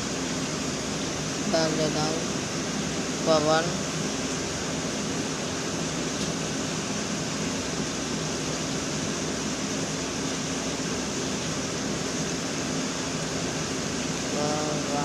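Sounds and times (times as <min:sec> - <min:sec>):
low hum: 0:00.0 - 0:15.0
steady background hiss: 0:00.0 - 0:15.0.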